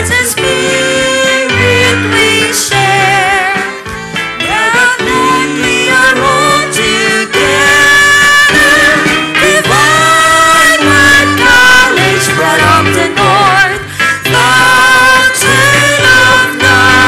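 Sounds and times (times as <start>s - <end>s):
woman singing into a microphone: 0.0s - 3.8s, 4.4s - 17.0s
guitar: 0.0s - 17.0s
live band playing: 0.0s - 17.0s.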